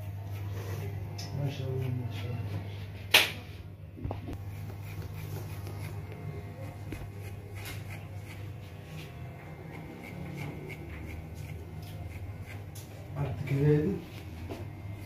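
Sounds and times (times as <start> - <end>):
electric hair clipper buzzing: 0.0 - 2.5, 4.4 - 15.0.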